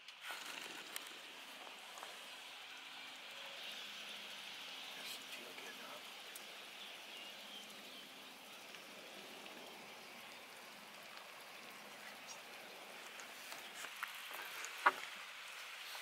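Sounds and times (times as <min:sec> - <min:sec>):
outdoor marsh hiss: 0:00.0 - 0:16.0.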